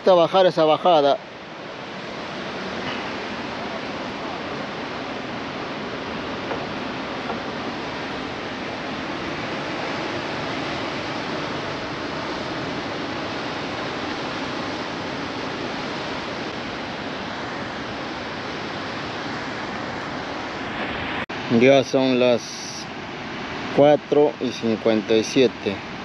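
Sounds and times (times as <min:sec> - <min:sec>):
ocean surf breaking on rocks: 0:00.0 - 0:26.0.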